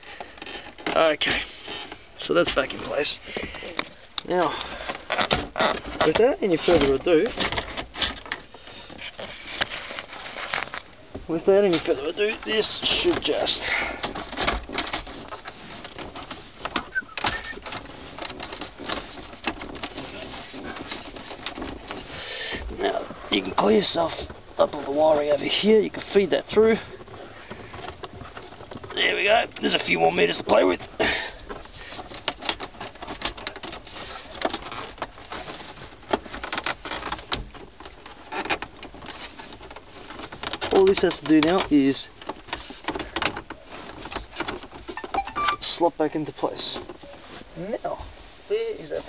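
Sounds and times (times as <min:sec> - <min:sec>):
plastic parts clicking and scraping: 0:00.0 - 0:49.0.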